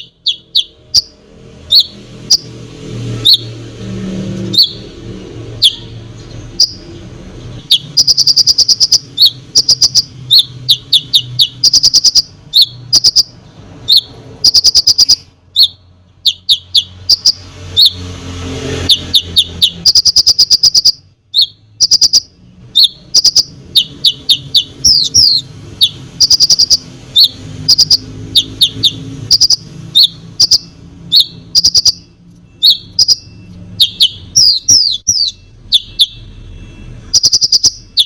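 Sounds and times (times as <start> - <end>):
songbird chirping and trilling: 0.0 - 36.3, 37.1 - 38.0.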